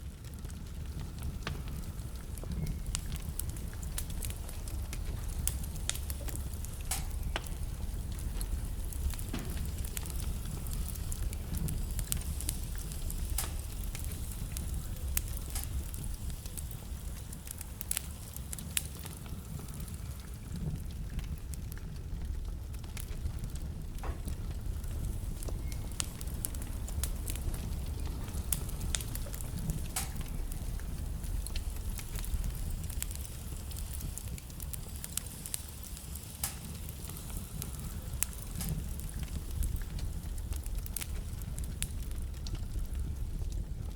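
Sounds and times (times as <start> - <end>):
flames rumbling: 0.0 - 43.9
wood fire crackling: 0.0 - 43.9
logs popping: 0.2 - 43.7.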